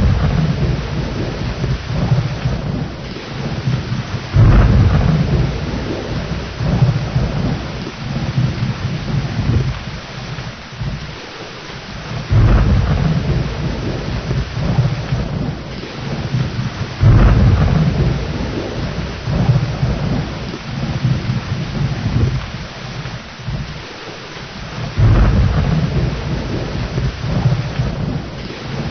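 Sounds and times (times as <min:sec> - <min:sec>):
steady rain: 0:00.0 - 0:28.9
thunder rumbling: 0:00.0 - 0:28.9.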